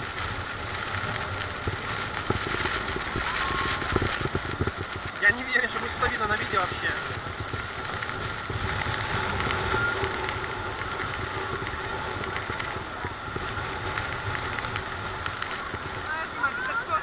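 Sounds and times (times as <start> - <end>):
boat engine running: 0.0 - 17.0
waterfall roaring: 0.0 - 17.0.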